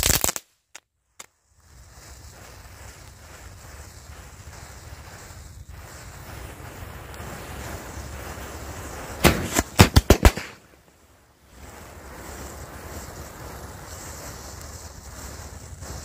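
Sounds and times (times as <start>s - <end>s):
firecrackers banging: 1.2s - 16.0s.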